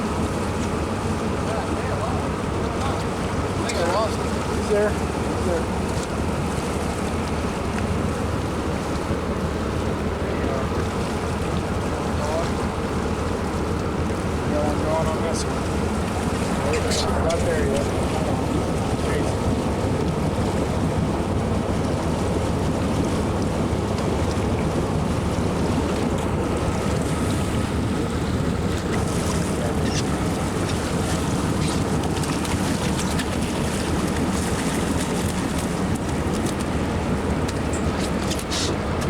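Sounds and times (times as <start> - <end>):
boat motor running: 0.0 - 39.0
water noise: 0.0 - 39.0.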